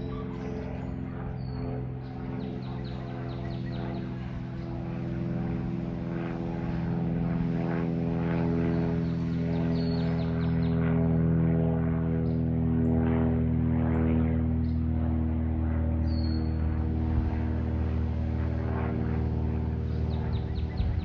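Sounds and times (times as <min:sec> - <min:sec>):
propeller airplane droning overhead: 0:00.0 - 0:21.0.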